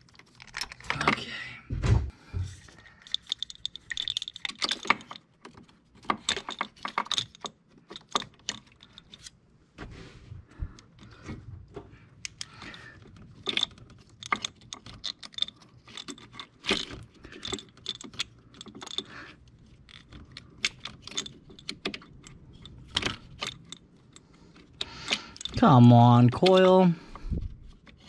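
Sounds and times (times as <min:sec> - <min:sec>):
tools and parts clicking and rattling: 0:00.0 - 0:01.3, 0:02.2 - 0:09.4, 0:10.6 - 0:28.0.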